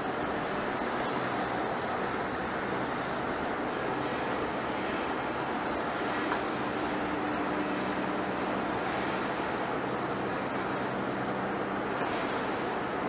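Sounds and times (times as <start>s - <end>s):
lathe running with low hum: 0.0s - 13.0s.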